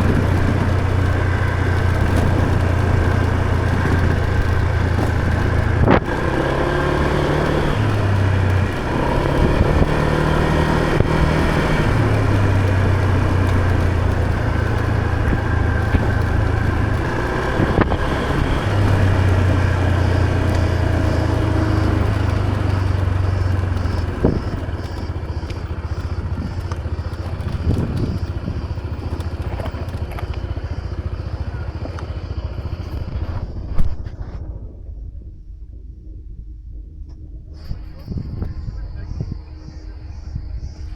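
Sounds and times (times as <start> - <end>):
scooter engine running: 0.0 - 40.9
wind and road noise: 0.0 - 40.9.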